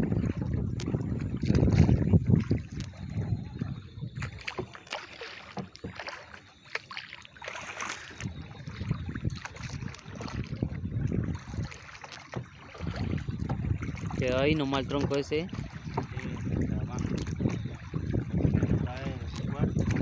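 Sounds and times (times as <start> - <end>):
paddle pulling through water: 0.0 - 20.0
water splashing and lapping: 0.0 - 20.0.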